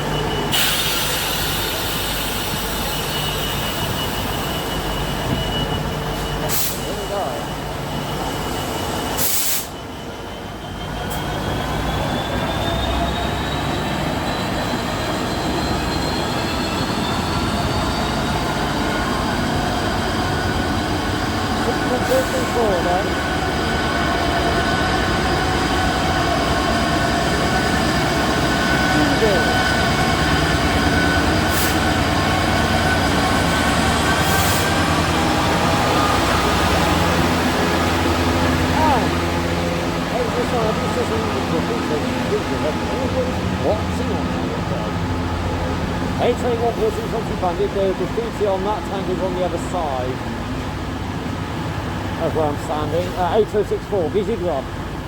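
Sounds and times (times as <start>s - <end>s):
high wheel squeal: 0.0s - 50.2s.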